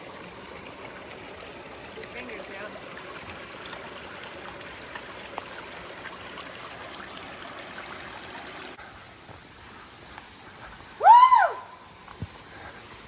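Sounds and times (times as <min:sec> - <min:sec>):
mountain stream running: 0:00.0 - 0:13.0.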